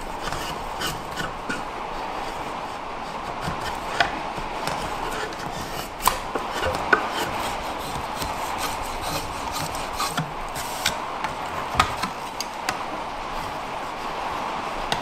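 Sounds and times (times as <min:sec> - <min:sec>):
drawknife scraping wood: 0:00.0 - 0:02.4, 0:03.0 - 0:12.8.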